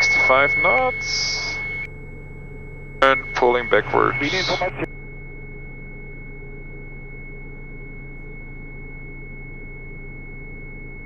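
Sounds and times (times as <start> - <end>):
aircraft engine drone over intercom: 0.0 - 11.0
high thin tone: 0.0 - 11.0.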